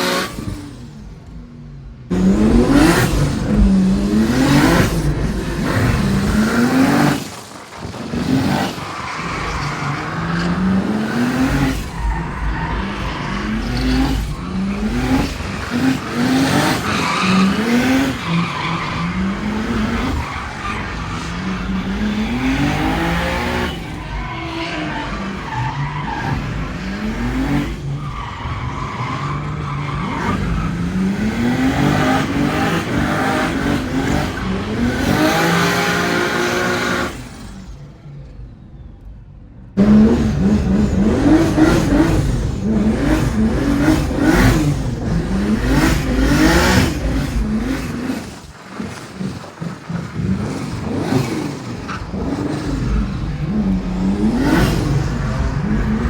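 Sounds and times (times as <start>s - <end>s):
car engine revving hard: 0.0s - 1.3s, 2.1s - 37.8s, 39.8s - 56.0s
tires skidding and squealing: 0.0s - 1.3s, 2.1s - 37.9s, 39.8s - 56.0s.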